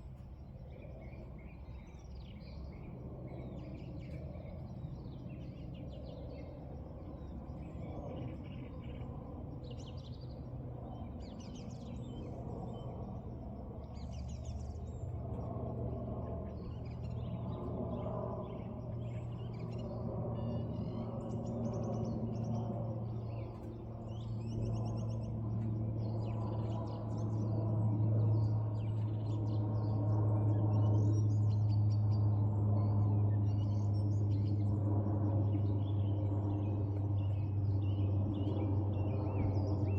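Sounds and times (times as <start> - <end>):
small birds chirping: 7.2 - 39.9.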